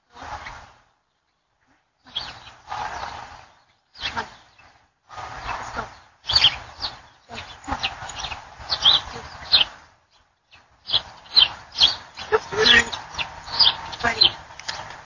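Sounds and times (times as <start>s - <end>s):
noise: 0.0s - 15.0s.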